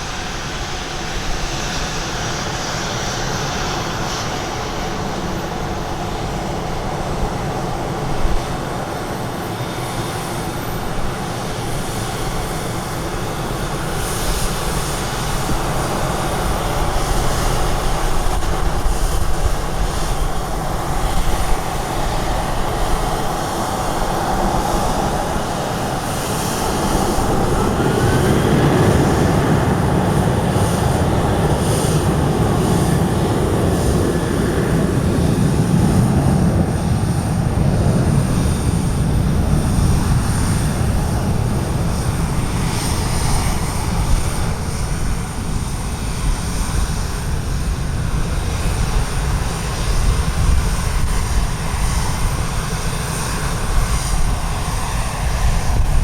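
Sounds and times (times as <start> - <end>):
jet engines rumbling: 0.0 - 56.0
wind buffeting microphone: 0.0 - 56.0.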